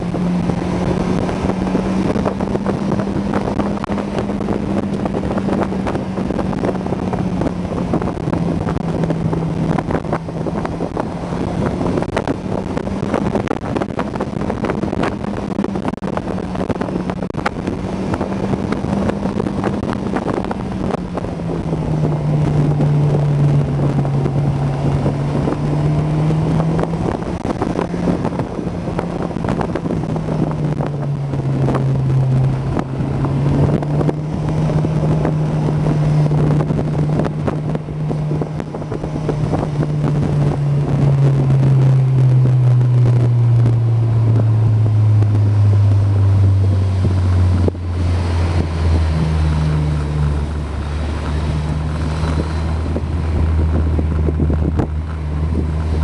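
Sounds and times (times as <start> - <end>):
car engine at high revs: 0.0 - 56.0
wind buffeting microphone: 0.0 - 56.0.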